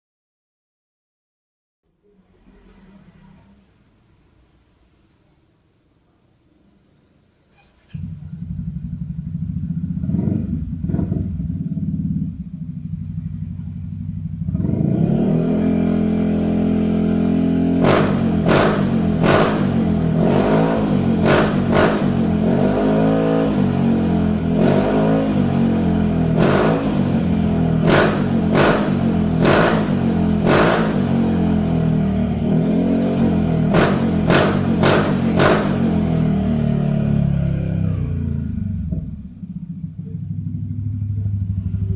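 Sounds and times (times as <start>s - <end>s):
scooter engine idling and revving: 7.6s - 41.9s.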